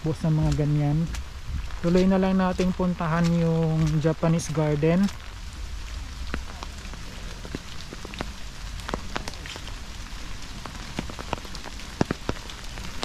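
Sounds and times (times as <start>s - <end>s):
raindrops ticking on umbrella: 0.0s - 13.0s
steady rain: 0.0s - 13.0s.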